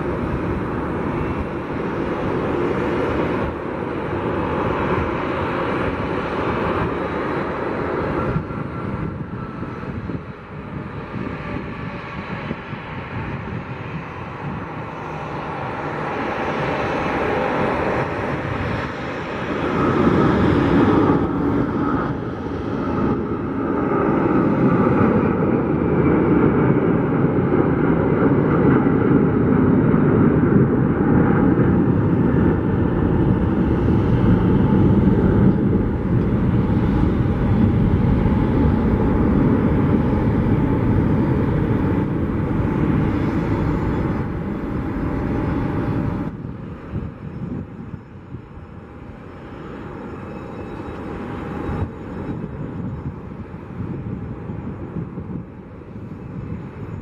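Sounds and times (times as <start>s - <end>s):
jet engines at takeoff: 0.0s - 57.0s.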